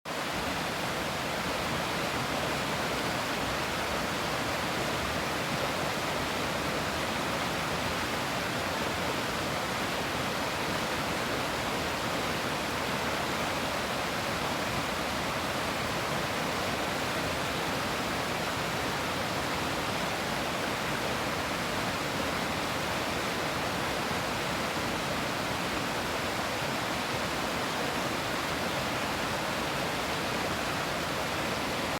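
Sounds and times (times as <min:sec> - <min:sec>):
river water rushing over rocks: 0:00.1 - 0:31.9.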